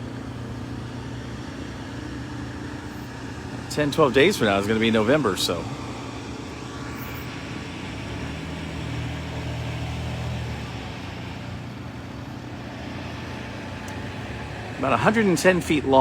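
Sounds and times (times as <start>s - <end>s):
traffic engine hum and road noise: 0.0s - 16.0s
vehicle passing: 0.0s - 16.0s.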